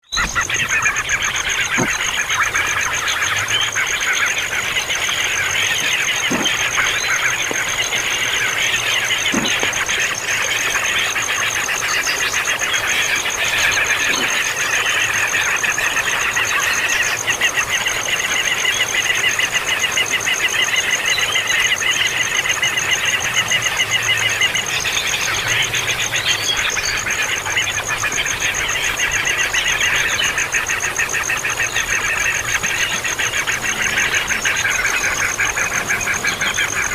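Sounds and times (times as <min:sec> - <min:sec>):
baby birds begging calls: 0:00.0 - 0:36.9.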